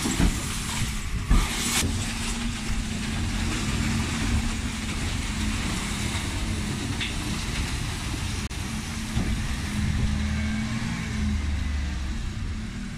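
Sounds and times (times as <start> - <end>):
lorry diesel engine driving off: 1.9 - 12.9.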